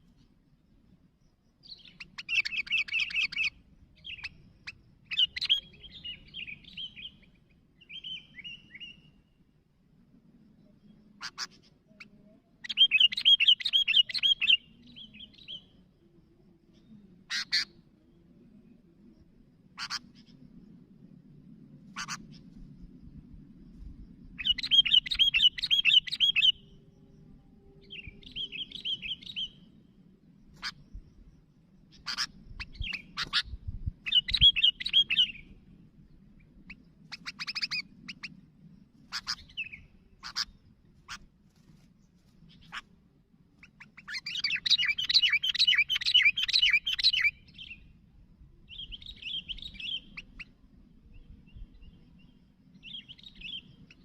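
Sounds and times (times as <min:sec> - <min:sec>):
birds rapid chirping song: 0:00.0 - 0:54.0.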